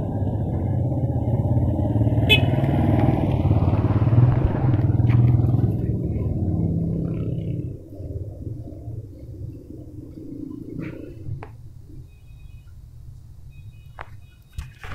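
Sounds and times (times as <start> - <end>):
engine humming: 0.0 - 14.5.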